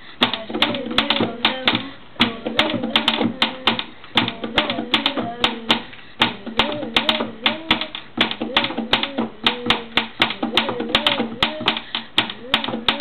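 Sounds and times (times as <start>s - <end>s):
child humming a tune: 0.0s - 13.0s
hands and pencil tapping desk: 0.2s - 13.0s.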